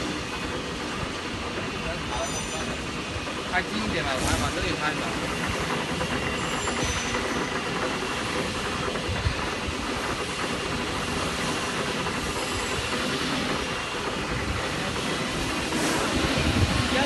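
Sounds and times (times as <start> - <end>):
machinery humming and hissing: 0.0 - 17.0.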